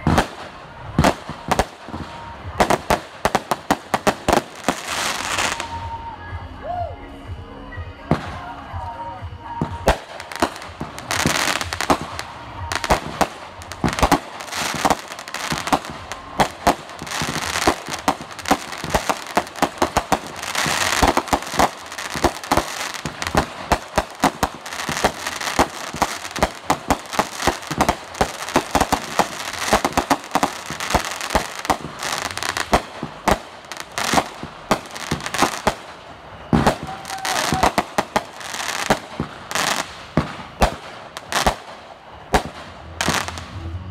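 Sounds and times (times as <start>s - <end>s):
firework bangs: 0.0s - 6.0s, 9.5s - 43.9s
crackling firework stars: 0.0s - 43.9s.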